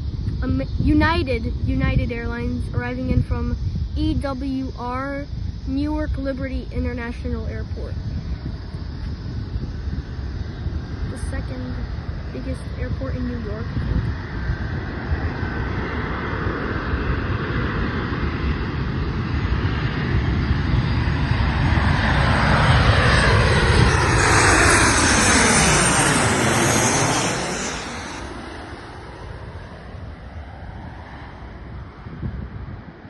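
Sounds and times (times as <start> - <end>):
jet plane passing overhead: 0.0 - 33.0.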